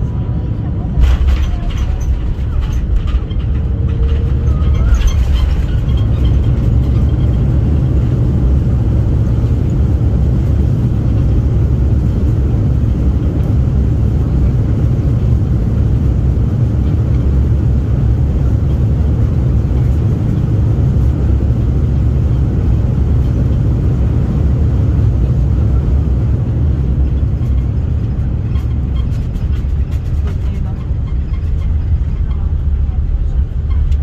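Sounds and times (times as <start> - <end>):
jet engines and rushing air: 0.0 - 34.0.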